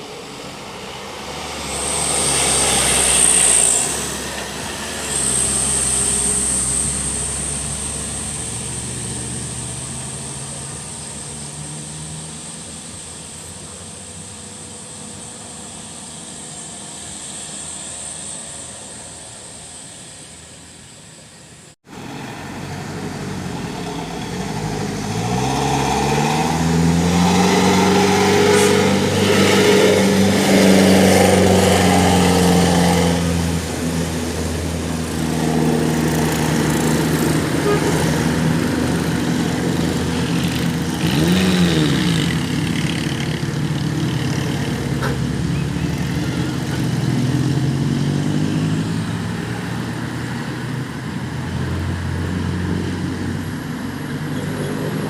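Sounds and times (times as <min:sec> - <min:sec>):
diesel truck engine labouring: 0:00.0 - 0:20.2, 0:21.5 - 0:55.0.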